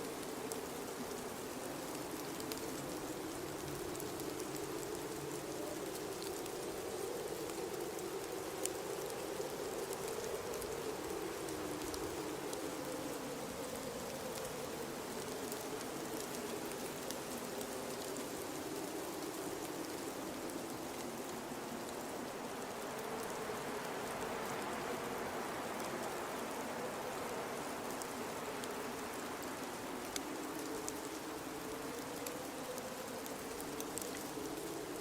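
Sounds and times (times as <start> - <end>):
blizzard wind blowing: 0.0 - 35.0
faint scattered ticks: 0.0 - 35.0.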